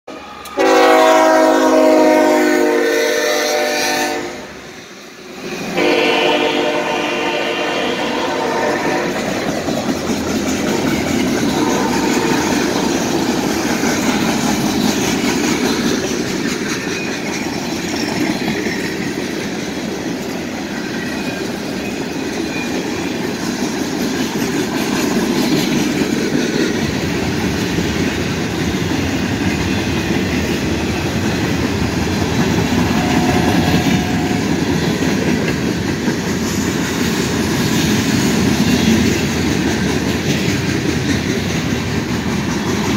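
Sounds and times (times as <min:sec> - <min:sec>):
freight train cars rolling past: 0:00.1 - 0:42.9.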